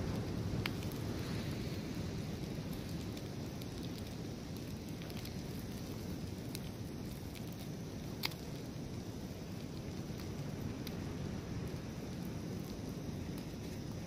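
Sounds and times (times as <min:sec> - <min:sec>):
eggs sizzling in frying pan: 0:00.0 - 0:14.0.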